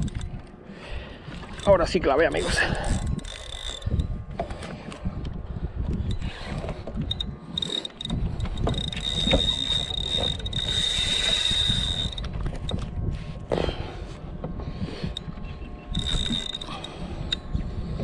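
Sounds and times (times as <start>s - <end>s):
reel mechanical clicks: 0.0s - 0.6s, 1.2s - 12.9s, 15.0s - 17.6s
fishing reel whining: 0.0s - 5.2s, 5.9s - 12.9s, 14.8s - 18.0s.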